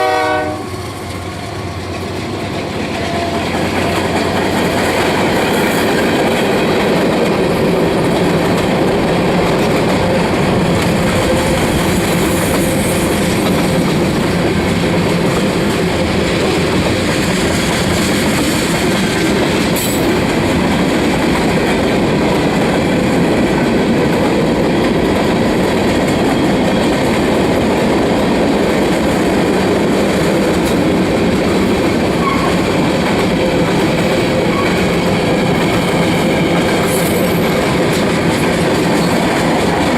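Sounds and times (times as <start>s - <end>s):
train wheels rumbling on rails: 0.0s - 39.9s
clickety-clack over rail joints: 0.4s - 39.9s.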